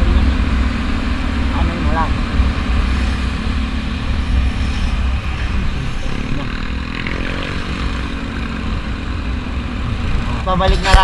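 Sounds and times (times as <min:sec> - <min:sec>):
wind rush: 0:00.0 - 0:10.2
motorcycle engine revving: 0:00.0 - 0:11.0
road rumble: 0:00.0 - 0:11.0.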